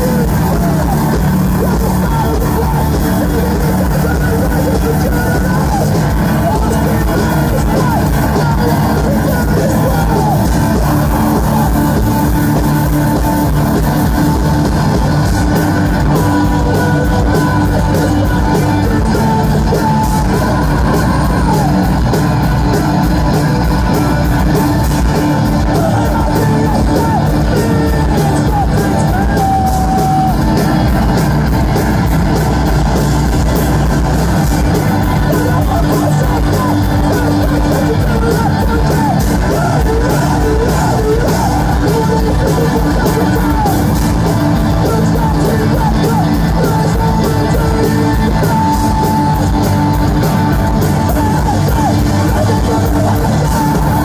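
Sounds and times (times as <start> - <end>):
distorted guitars: 0.0 - 54.0
rapid drumming: 0.0 - 54.0
shouted vocals: 0.0 - 54.0.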